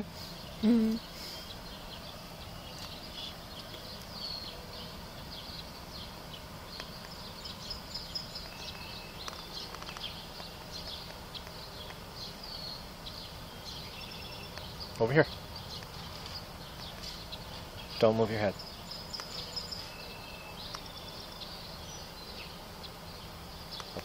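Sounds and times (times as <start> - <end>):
birds chirping: 0.0 - 24.0
low background hum: 0.0 - 24.0.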